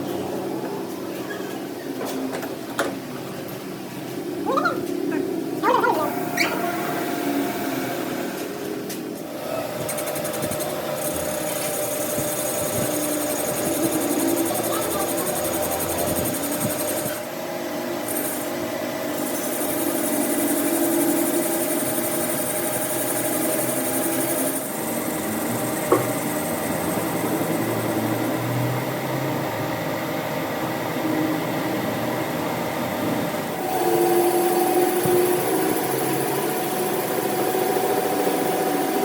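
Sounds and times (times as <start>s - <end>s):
workshop machine running: 0.0s - 39.0s.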